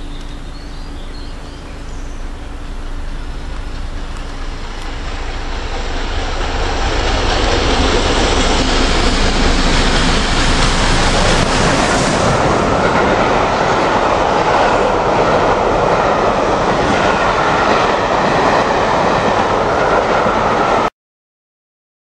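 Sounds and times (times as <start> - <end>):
train wheels rushing on rail: 0.0 - 20.9.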